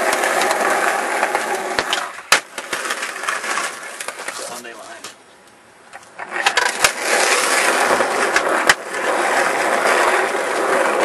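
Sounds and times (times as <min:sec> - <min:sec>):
skateboard clacks: 0:00.0 - 0:05.2, 0:05.9 - 0:11.0
skateboard wheels on rough pavement: 0:00.0 - 0:05.2, 0:05.9 - 0:11.0.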